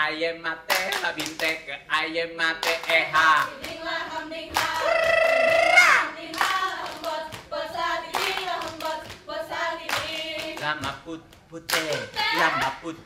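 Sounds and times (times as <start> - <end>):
group singing: 0.0 - 13.0
people clapping and body slapping: 0.7 - 1.7, 2.6 - 3.8, 4.5 - 12.9.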